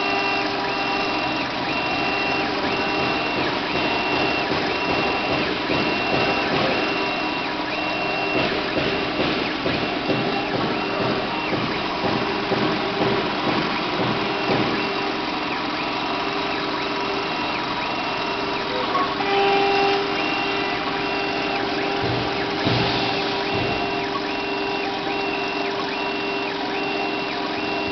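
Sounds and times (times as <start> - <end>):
router spindle running: 0.0 - 27.9
stepper motors whining: 0.0 - 27.9.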